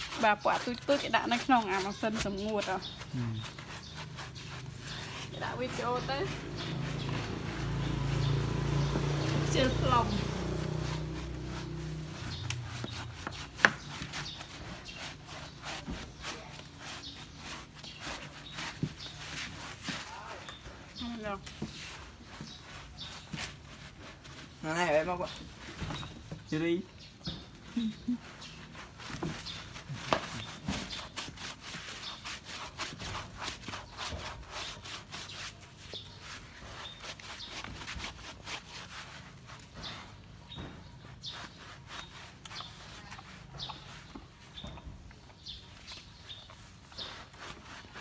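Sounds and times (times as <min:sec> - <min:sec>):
brush scrubbing wet fur: 0:00.0 - 0:48.0.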